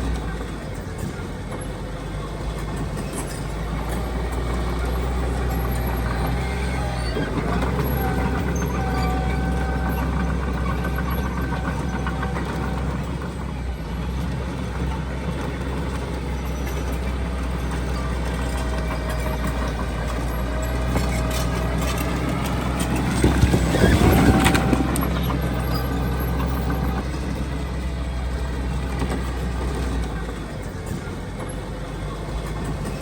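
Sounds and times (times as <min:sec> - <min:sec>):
diesel engine drone: 0:00.0 - 0:33.0.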